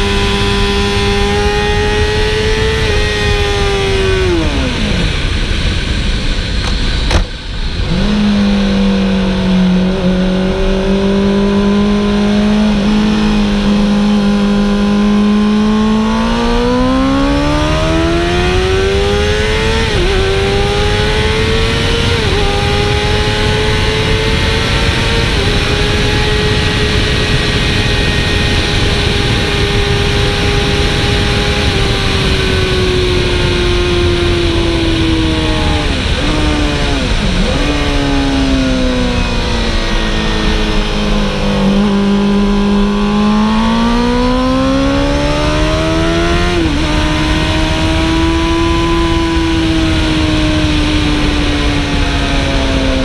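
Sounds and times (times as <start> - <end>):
motorcycle engine revving: 0.0 - 53.0
wind rush on microphone: 0.0 - 53.0.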